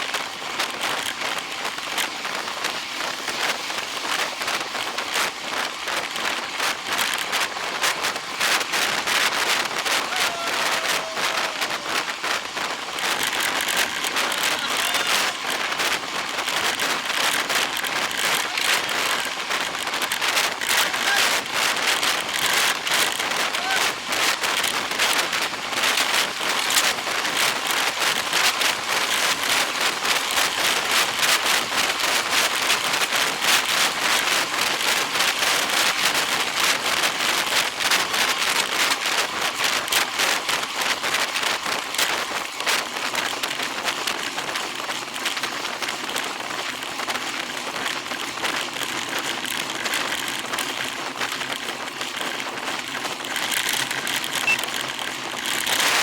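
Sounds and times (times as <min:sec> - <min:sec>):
rain pattering on hard surface: 0:00.0 - 0:56.0.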